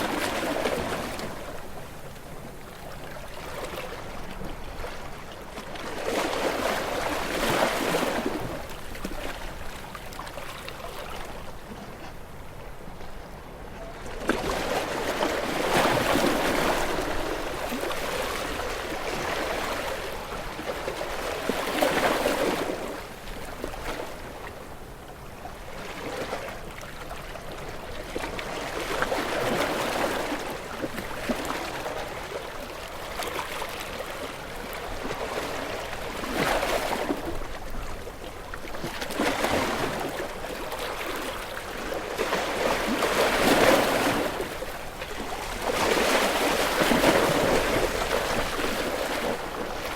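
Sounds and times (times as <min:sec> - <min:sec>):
ocean waves breaking: 0:00.0 - 0:12.2, 0:14.0 - 0:24.6, 0:28.1 - 0:49.9.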